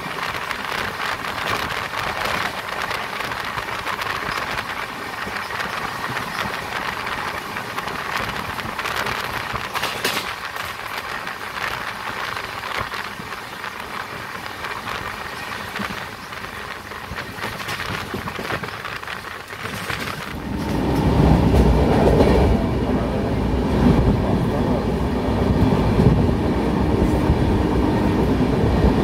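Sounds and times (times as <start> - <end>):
train clatter: 0.0 - 29.0
train wheels rushing on rails: 0.0 - 29.0.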